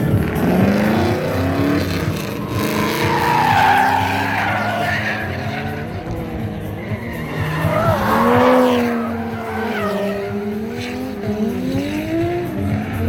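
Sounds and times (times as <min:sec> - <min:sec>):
car engine revving: 0:00.0 - 0:13.0
tyres skidding and squealing: 0:00.0 - 0:13.0.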